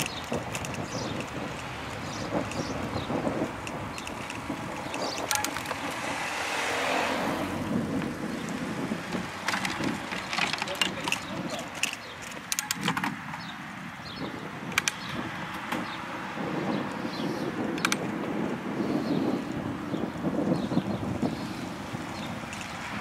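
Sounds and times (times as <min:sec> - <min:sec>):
bicycle clicks and rattles: 0:00.0 - 0:06.6, 0:07.6 - 0:23.0
bicycle road rumble: 0:00.0 - 0:23.0
wind on microphone: 0:00.0 - 0:23.0.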